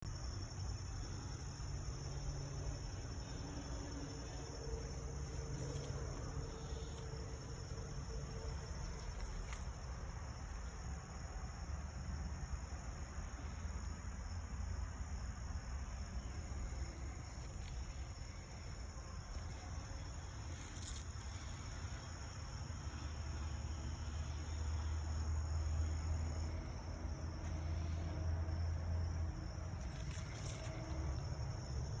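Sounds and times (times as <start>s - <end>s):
constant low rumble: 0.0s - 32.0s
insects chirping: 0.0s - 32.0s.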